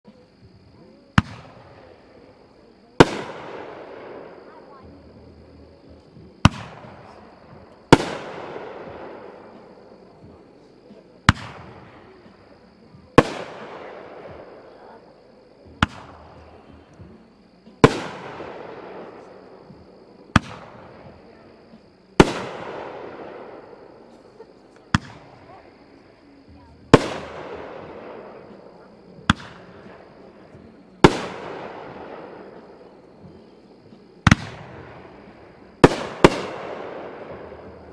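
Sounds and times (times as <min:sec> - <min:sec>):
firework bursting report: 0:01.1 - 0:05.0, 0:06.4 - 0:15.1, 0:15.8 - 0:37.9.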